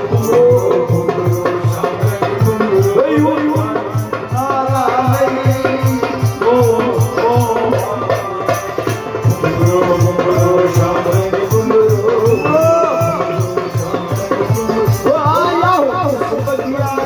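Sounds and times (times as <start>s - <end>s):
quick steady drum beat: 0.0s - 17.0s.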